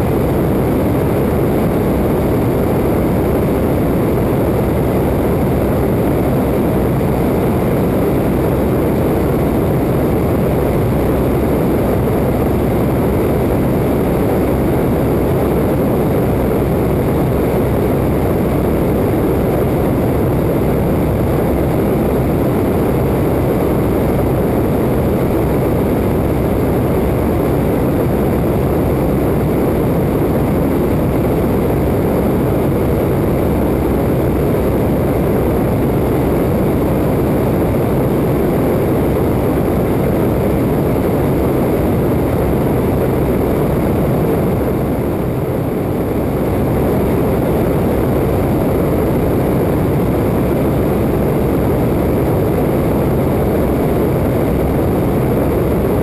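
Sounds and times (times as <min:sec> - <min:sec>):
airplane engine and propeller: 0:00.0 - 0:56.0
wind rush over microphone: 0:00.0 - 0:56.0.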